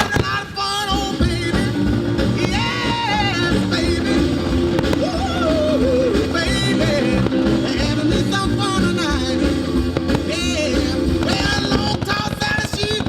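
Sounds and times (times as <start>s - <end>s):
person singing: 0.0s - 13.0s
pop-rock song with full band: 0.0s - 13.0s.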